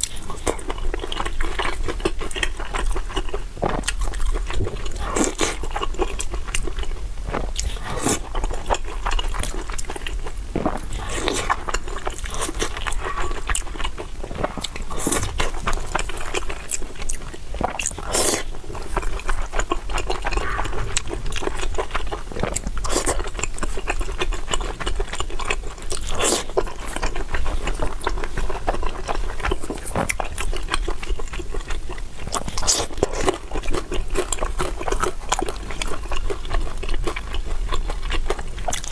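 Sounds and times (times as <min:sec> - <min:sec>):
chewing and wet mouth sounds: 0:00.0 - 0:38.9.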